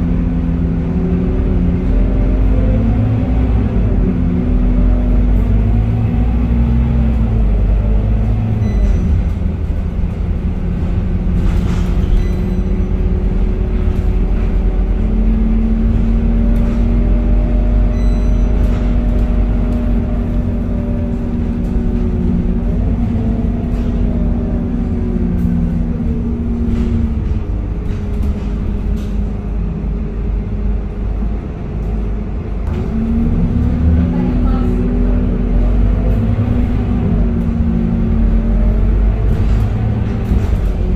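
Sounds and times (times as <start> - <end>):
bus diesel engine hum: 0.0 - 40.9
low road rumble: 0.0 - 40.9.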